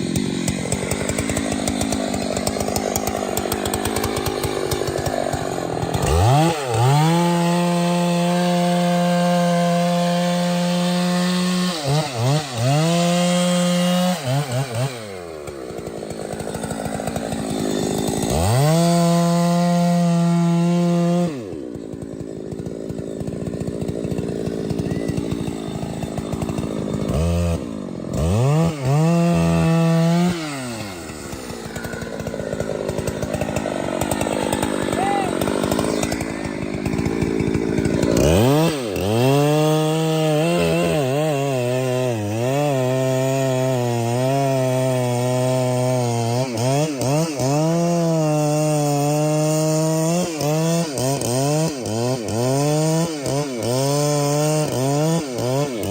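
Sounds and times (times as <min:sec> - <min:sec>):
chainsaw revving and cutting wood: 0:00.0 - 0:55.9.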